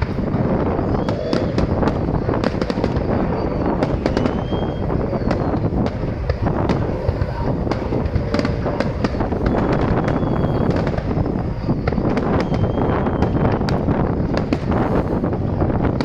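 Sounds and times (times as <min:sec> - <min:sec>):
faint fireworks whistles: 0:00.0 - 0:16.0
fireworks booming and crackling: 0:00.0 - 0:16.0.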